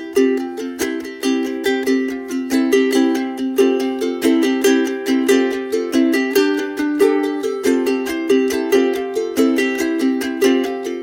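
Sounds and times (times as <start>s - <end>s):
plucked-string background music: 0.0s - 11.0s.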